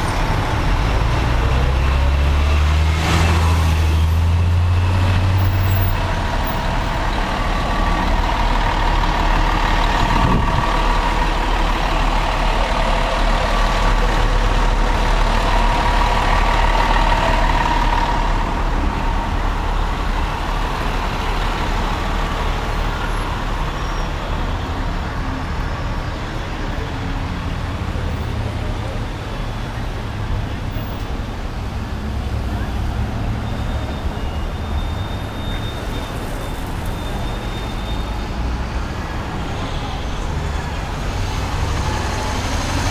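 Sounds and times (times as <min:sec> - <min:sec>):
heavy truck engine running: 0:00.0 - 0:42.9
street traffic: 0:00.0 - 0:42.9.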